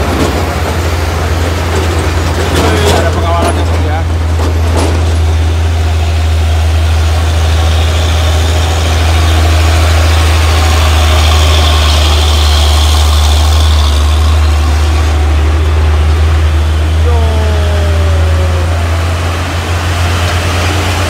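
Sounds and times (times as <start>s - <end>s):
heavy truck engine running: 0.0s - 21.0s.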